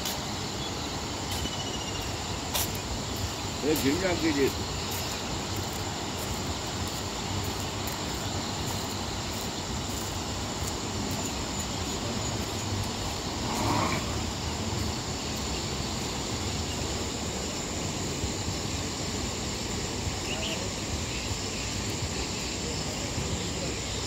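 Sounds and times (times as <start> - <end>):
river rushing roar: 0.0 - 24.0.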